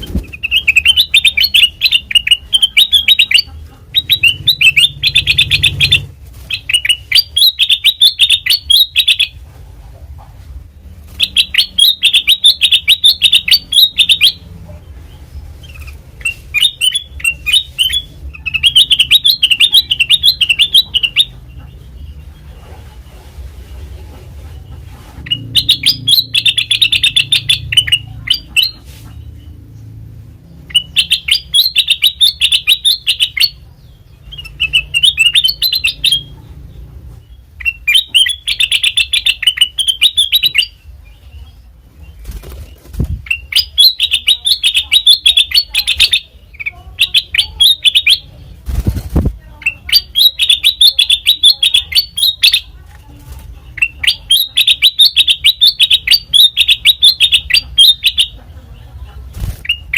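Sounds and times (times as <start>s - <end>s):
bulbul singing fast chattering notes: 0.0s - 9.4s, 11.1s - 14.6s, 15.2s - 22.1s, 24.7s - 52.8s, 53.6s - 58.5s, 59.2s - 59.9s.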